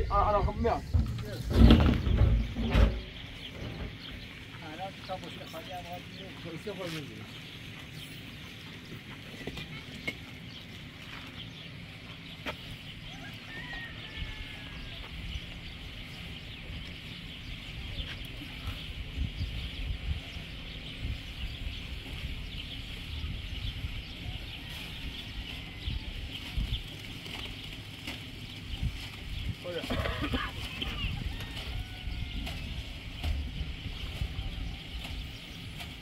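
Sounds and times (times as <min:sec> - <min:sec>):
birds chirping: 0:00.0 - 0:36.0
drawn-out bird call: 0:00.0 - 0:36.0
low uneven rumble: 0:00.0 - 0:36.0.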